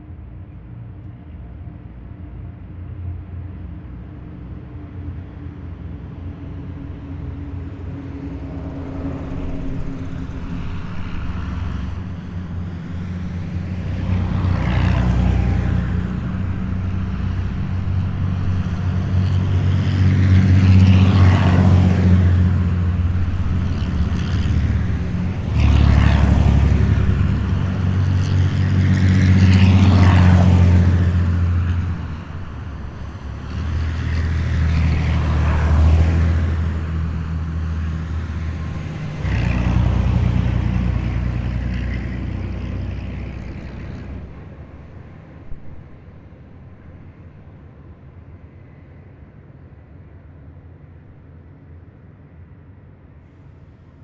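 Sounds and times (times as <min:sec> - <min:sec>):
heavy vehicles driving past: 0:02.6 - 0:51.4.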